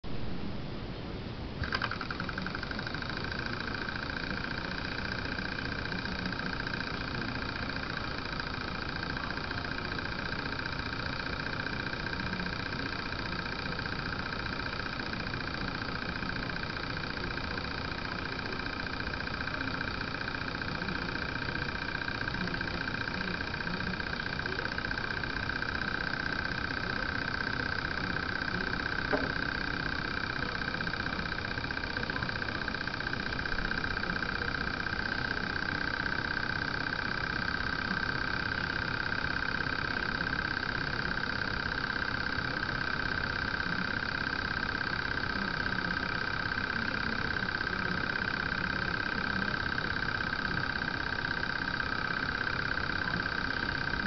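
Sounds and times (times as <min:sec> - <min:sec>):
click: 0:01.6 - 0:54.0
stirling engine running: 0:01.6 - 0:54.0.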